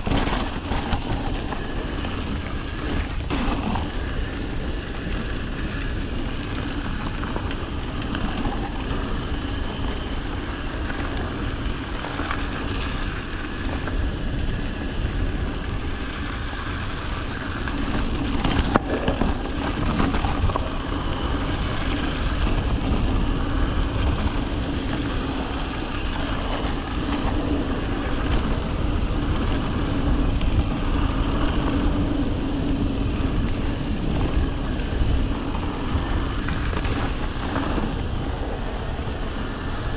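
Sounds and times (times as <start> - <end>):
bike tyres on dirt: 0.0 - 39.9
wind buffeting microphone: 0.0 - 39.9.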